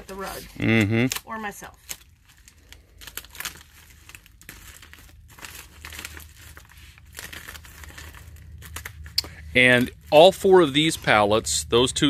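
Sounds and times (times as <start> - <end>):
plastic wrap crinkling: 0.0 - 11.8.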